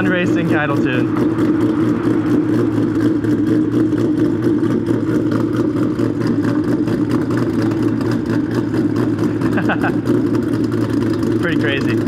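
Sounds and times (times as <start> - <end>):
car engine idling with choppy lope: 0.0 - 12.0.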